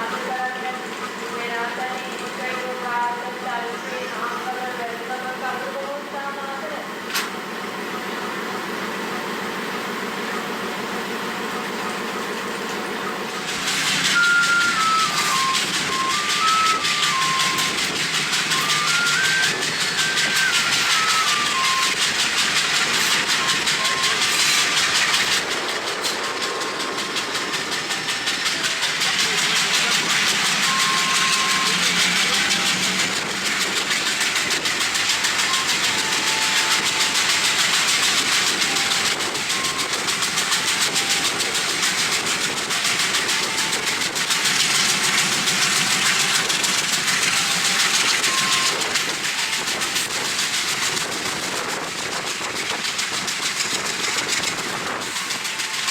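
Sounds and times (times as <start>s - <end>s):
train running on rails: 0.0s - 55.9s.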